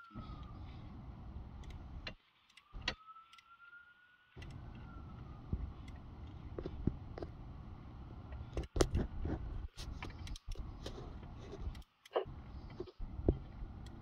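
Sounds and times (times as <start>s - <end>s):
steady low background: 0.1s - 2.9s, 4.4s - 14.0s.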